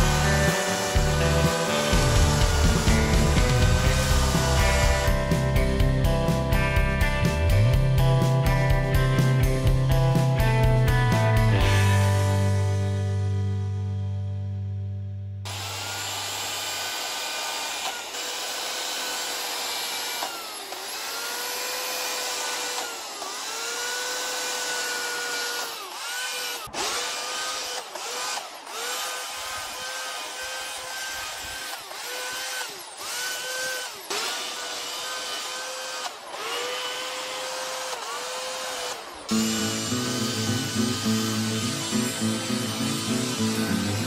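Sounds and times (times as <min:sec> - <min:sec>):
electric chainsaw cutting wood: 0:00.0 - 0:13.5, 0:15.4 - 0:44.0.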